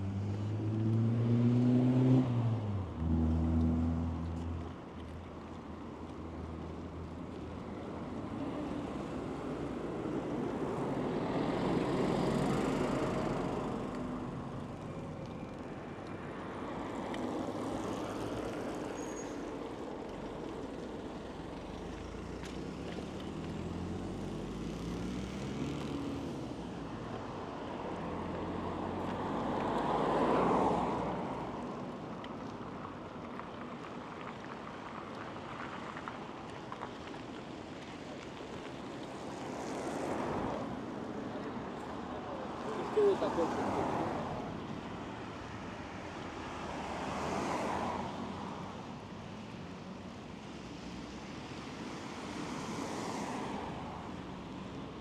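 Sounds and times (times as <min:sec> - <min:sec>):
vehicles passing on road: 0:00.0 - 0:55.0.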